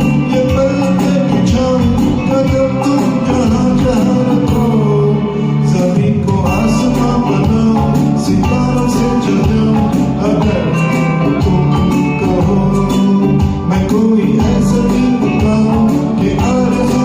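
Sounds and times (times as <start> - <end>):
steady beat: 0.0 - 4.9, 6.2 - 17.0
film song backing track: 0.0 - 17.0
plucked guitar: 0.0 - 17.0.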